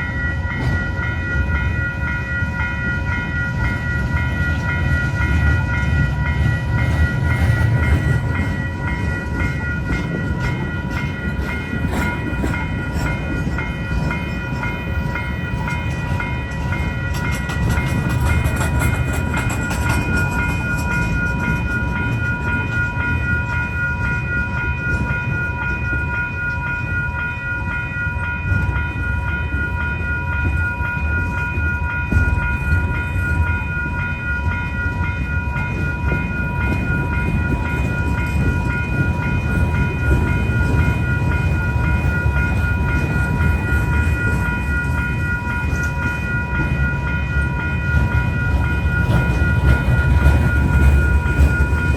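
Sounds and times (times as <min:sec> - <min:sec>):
train clicks and clanks: 0:00.0 - 0:51.9
train wheels rumbling on rail: 0:00.0 - 0:51.9.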